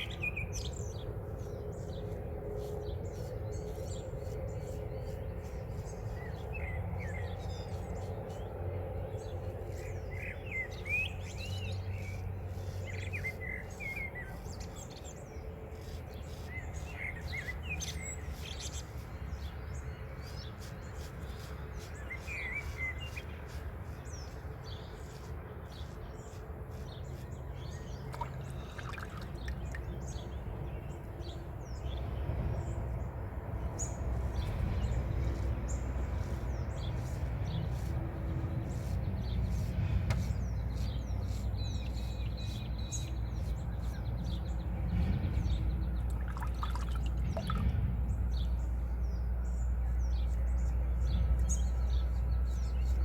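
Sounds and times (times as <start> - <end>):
birds chirping and calling: 0.0 - 32.8, 33.6 - 53.0.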